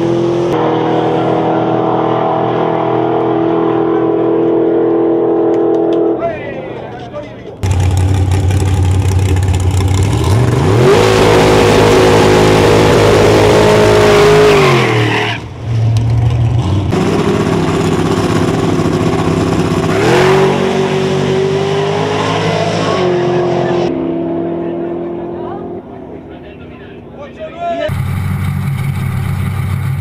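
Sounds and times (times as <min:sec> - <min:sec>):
race car engine revving: 0:00.0 - 0:06.2, 0:07.6 - 0:27.2.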